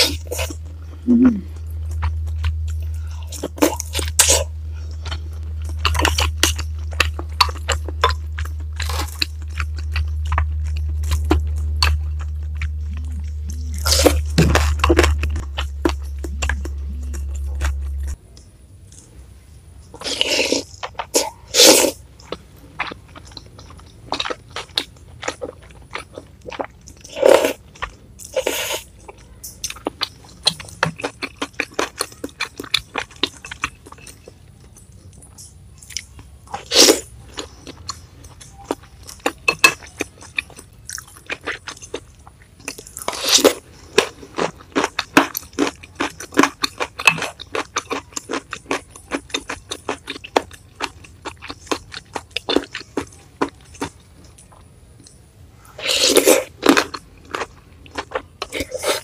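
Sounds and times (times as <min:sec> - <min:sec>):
wet chewing and smacking: 0:00.0 - 0:18.2, 0:19.9 - 0:59.0
steady low hum: 0:00.0 - 0:59.0.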